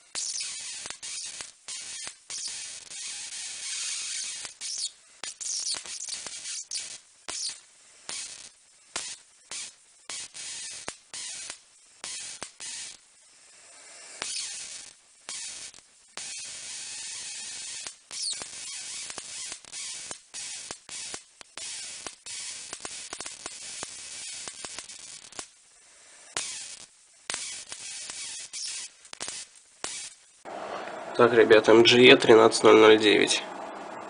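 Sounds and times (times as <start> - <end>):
electric arc hissing and crackling: 0.0 - 30.5.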